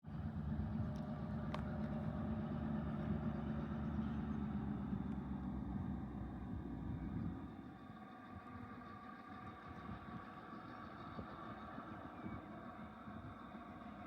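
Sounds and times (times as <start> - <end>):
diesel locomotive engines rumbling: 0.1 - 14.0.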